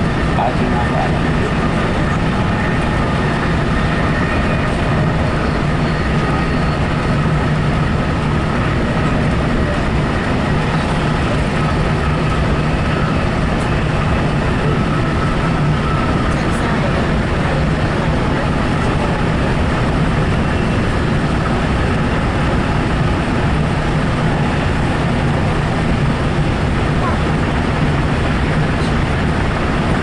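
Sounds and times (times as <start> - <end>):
faint steady whine: 0.0 - 30.0
train wheels rumbling on rails: 0.0 - 30.0.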